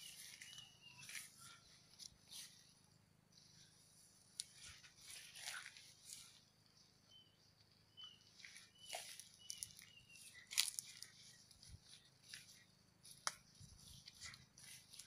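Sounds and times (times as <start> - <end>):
faint rustles and clicks: 0.0 - 6.7, 7.6 - 15.0
small bird chirping: 0.0 - 15.0.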